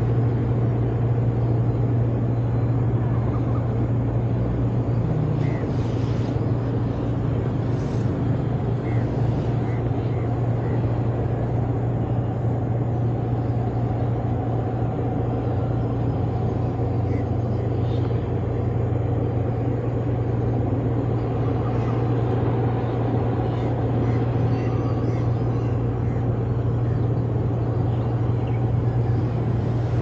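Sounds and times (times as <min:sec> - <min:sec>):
low engine drone: 0:00.0 - 0:30.0.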